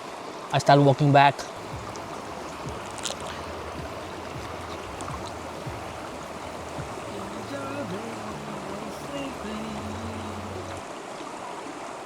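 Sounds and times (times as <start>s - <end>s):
river water rushing: 1.5s - 12.0s.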